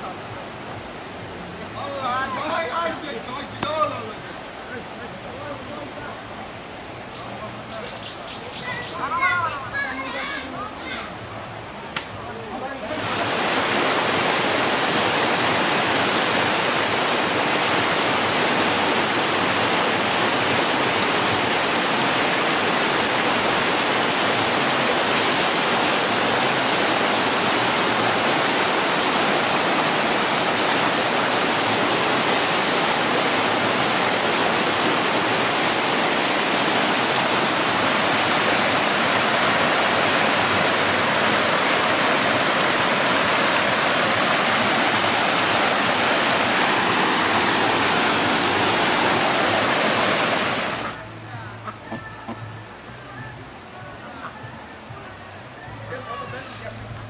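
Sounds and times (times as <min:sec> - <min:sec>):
water rushing over rocks: 0:00.0 - 0:07.7, 0:08.7 - 0:52.9.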